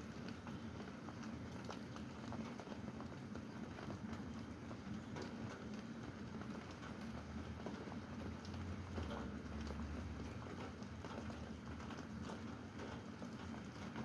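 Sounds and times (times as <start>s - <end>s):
raindrops tapping on hard surface: 0.0s - 14.0s
steady rain wash: 0.0s - 14.0s.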